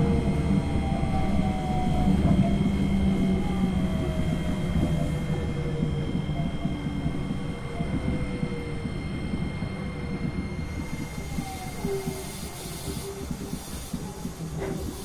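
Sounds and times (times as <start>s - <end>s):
inverter and motor whine: 0.0s - 15.0s
monorail low rolling rumble: 0.0s - 15.0s.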